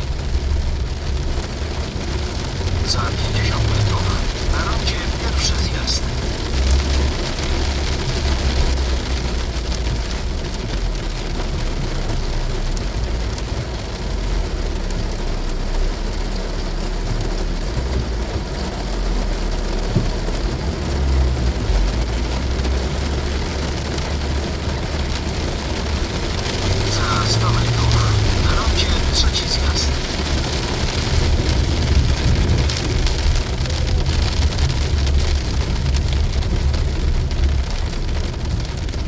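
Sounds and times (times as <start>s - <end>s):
car and road rumble: 0.0s - 39.0s
heavy rain on a car: 0.0s - 39.0s.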